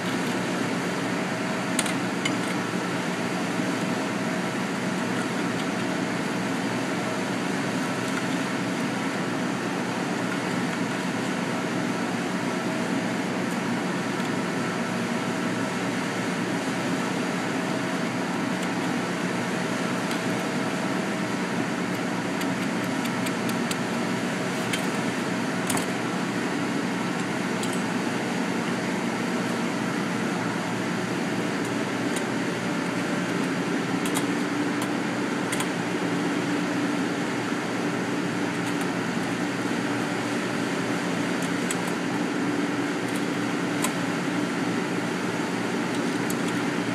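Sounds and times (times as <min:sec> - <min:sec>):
machine hum with fan rush: 0:00.0 - 0:46.9.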